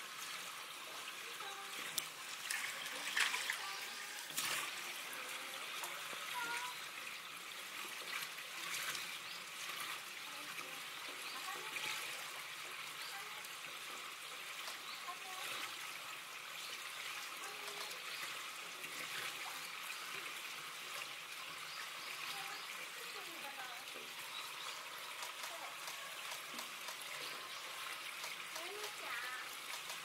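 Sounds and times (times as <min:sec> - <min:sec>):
trickle of running water: 0:00.0 - 0:30.0.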